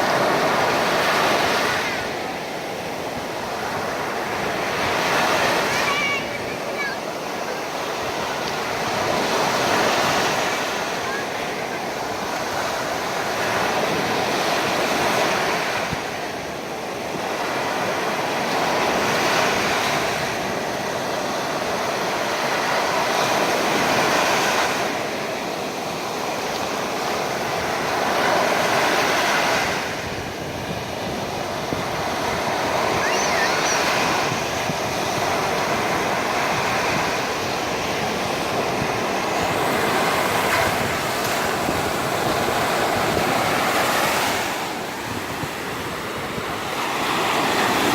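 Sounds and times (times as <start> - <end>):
sea waves breaking on beach: 0.0 - 47.9
wind on microphone: 0.0 - 47.9.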